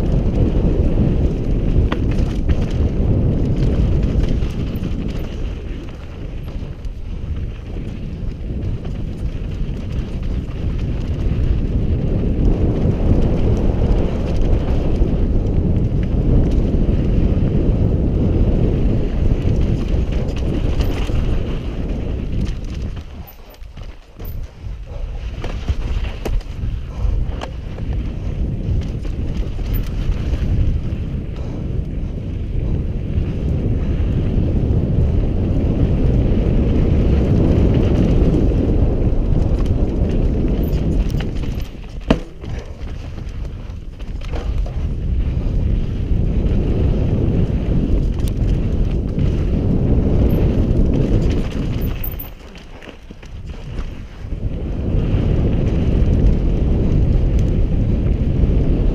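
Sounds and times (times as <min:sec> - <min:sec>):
bike rattling and knocking: 0:00.0 - 0:58.9
bike tyres rumbling on dirt: 0:00.0 - 0:58.9
wind buffeting microphone: 0:00.0 - 0:58.9.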